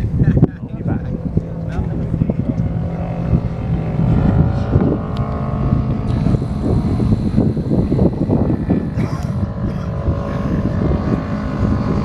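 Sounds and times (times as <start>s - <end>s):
high whine: 0.0s - 12.0s
motorcycle engines running: 0.0s - 12.0s
wind buffeting microphone: 0.0s - 12.0s.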